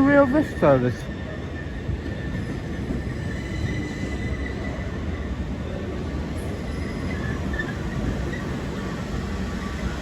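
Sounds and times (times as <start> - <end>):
electric train rumble: 0.0 - 10.0.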